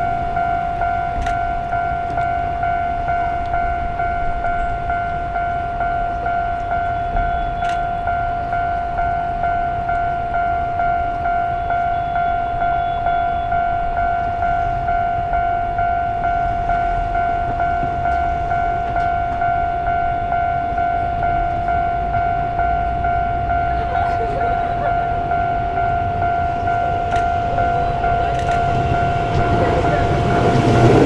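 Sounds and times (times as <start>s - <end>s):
crossing warning bell clanging: 0.0s - 31.0s
train rumble: 0.0s - 31.0s.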